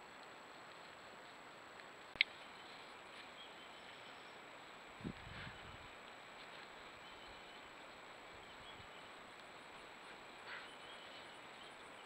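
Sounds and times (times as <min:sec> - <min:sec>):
faint rustle: 0:00.0 - 0:12.0
microphone hiss: 0:00.0 - 0:12.0.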